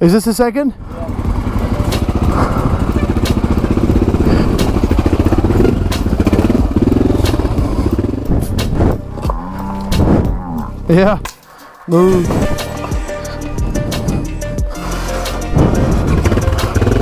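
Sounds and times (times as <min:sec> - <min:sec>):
motorcycle engine running: 0:00.8 - 0:10.8, 0:12.2 - 0:17.0.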